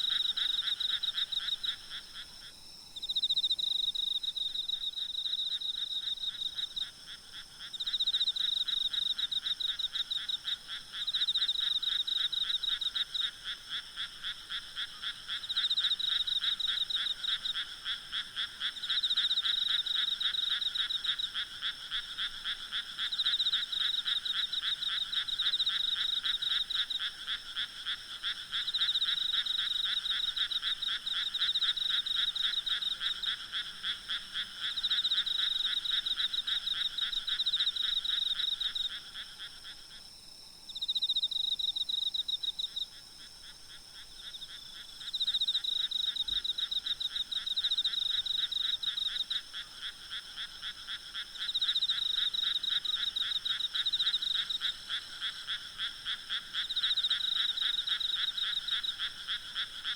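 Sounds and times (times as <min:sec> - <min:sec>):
frogs calling in pulsed trills: 0:00.0 - 0:59.9.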